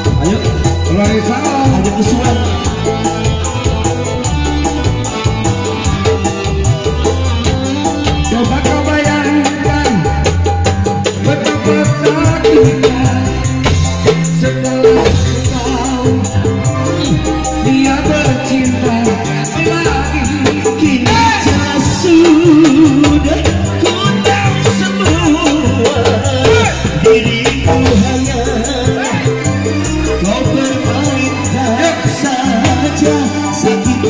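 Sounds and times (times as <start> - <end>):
live band music over pa: 0.0 - 34.0
person singing: 0.0 - 34.0.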